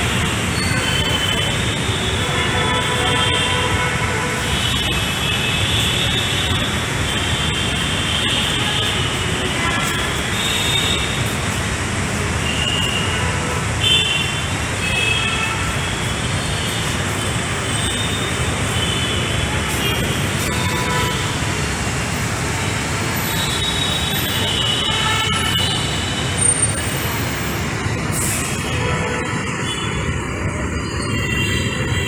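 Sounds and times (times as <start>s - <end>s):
vehicle horns: 0.0s - 11.4s, 12.4s - 21.5s, 22.7s - 26.6s, 28.4s - 30.2s, 31.0s - 32.0s
road traffic rumble: 0.0s - 32.0s.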